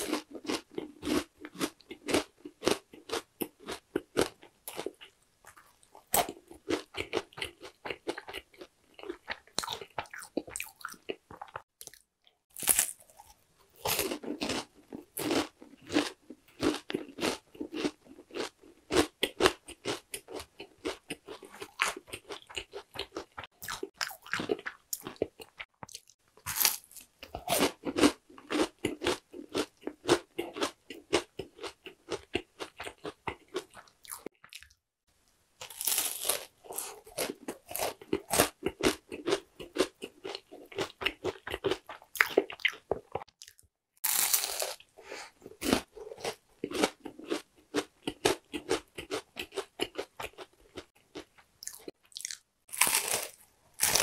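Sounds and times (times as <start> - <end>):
crunchy chewing: 0.0 - 34.8, 35.6 - 54.0.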